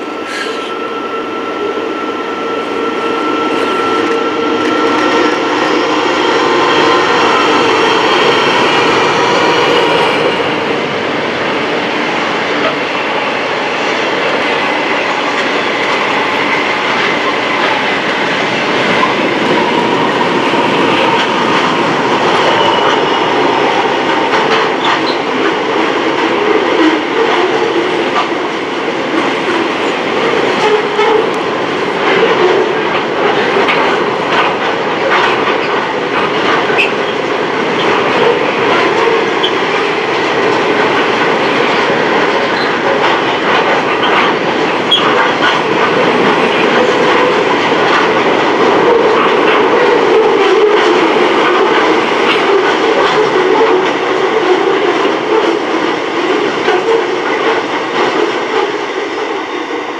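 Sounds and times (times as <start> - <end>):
train wheels rumbling on rails: 0.0 - 59.9
clickety-clack over rail joints: 3.6 - 59.9.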